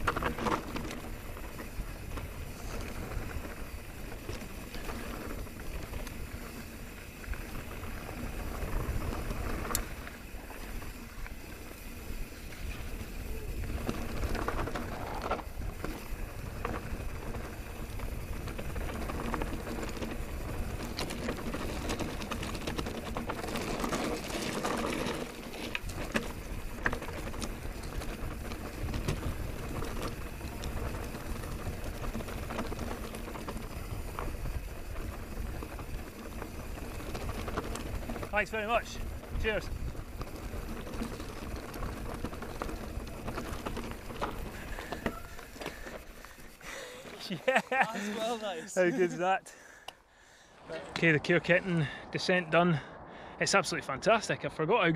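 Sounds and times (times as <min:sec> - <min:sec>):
bike clicks and rattles: 0:00.0 - 0:49.0
bike tyres crunching on dirt: 0:00.0 - 0:52.0.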